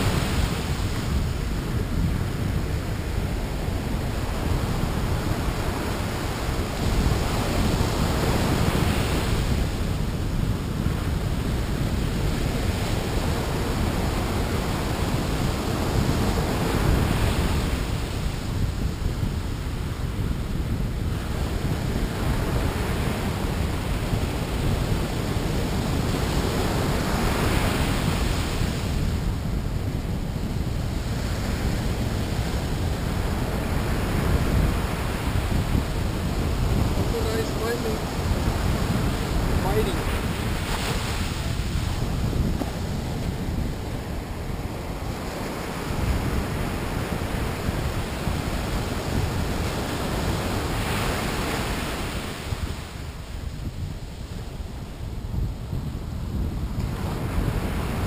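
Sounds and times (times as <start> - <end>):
ocean surf breaking: 0.0 - 55.0
wind on microphone: 0.0 - 58.0.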